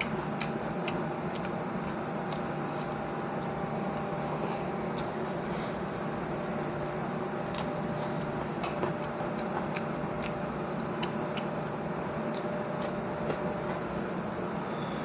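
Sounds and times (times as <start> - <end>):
chewing and mouth smacks: 0.0 - 5.6, 6.7 - 13.8
steady background hum: 0.0 - 15.0.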